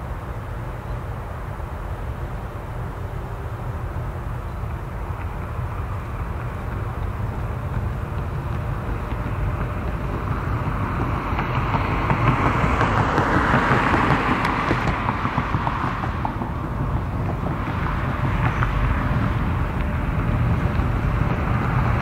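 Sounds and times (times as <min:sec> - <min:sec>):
diesel locomotive rumble: 0:00.0 - 0:22.0.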